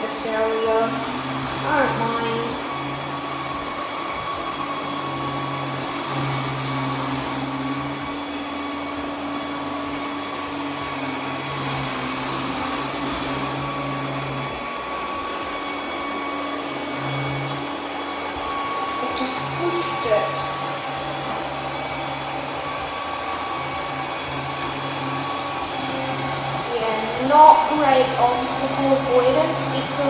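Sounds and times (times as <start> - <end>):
robot vacuum running: 0.0 - 30.0.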